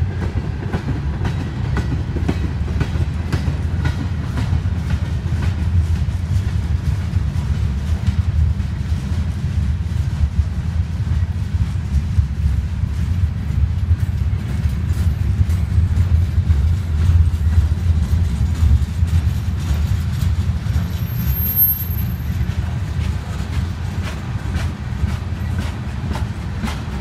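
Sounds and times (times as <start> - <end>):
train cars clicking and clanking: 0.0 - 27.0
train wheels rumbling on rails: 0.0 - 27.0.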